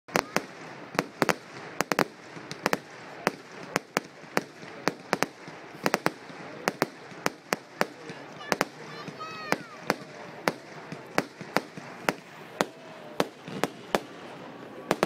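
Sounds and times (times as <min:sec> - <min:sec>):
fireworks bangs: 0:00.1 - 0:15.0
background hiss: 0:00.2 - 0:15.0.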